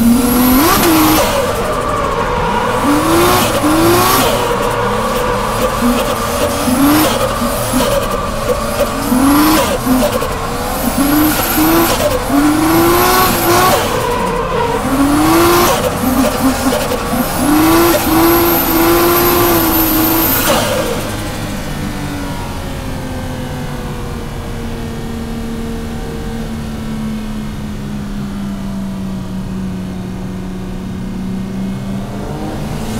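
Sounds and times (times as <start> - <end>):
car engine revving: 0.0 - 26.6, 30.1 - 32.9.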